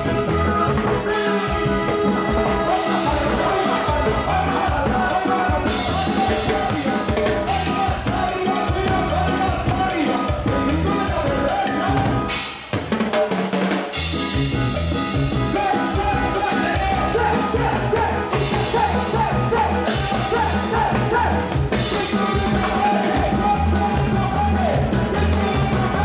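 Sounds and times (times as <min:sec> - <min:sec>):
person singing: 0:00.0 - 0:12.4, 0:14.8 - 0:26.0
band music: 0:00.0 - 0:26.0
drum kit: 0:00.0 - 0:26.0.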